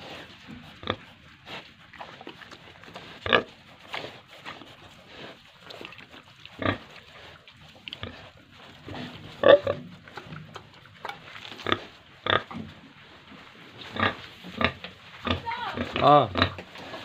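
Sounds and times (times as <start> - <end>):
pigs grunting: 0.0 - 12.6, 13.9 - 17.0.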